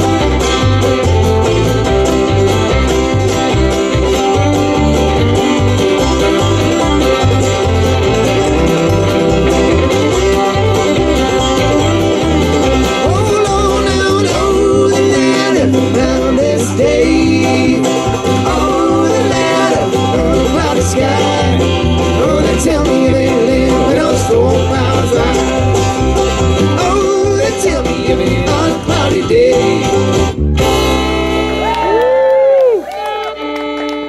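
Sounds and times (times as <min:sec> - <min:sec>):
banjo: 0:00.0 - 0:31.9
acoustic guitar: 0:00.0 - 0:32.1, 0:33.2 - 0:34.0
fiddle: 0:00.0 - 0:34.0
upright bass: 0:00.0 - 0:34.0.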